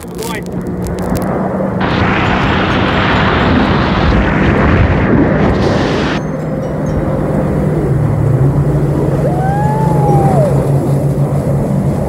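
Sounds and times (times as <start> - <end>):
jet ski engines droning: 0.0 - 12.0
passing jet ski whine: 0.0 - 12.0.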